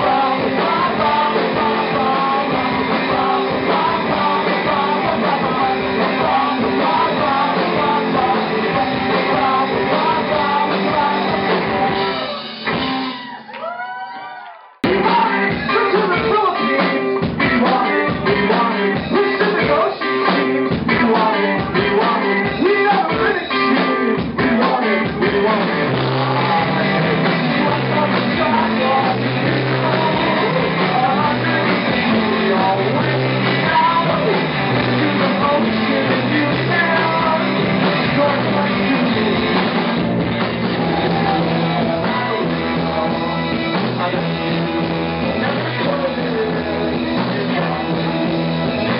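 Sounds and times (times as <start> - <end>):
man singing: 0.0 - 12.5, 14.8 - 48.9
rock band playing live: 0.0 - 13.5, 14.8 - 48.9.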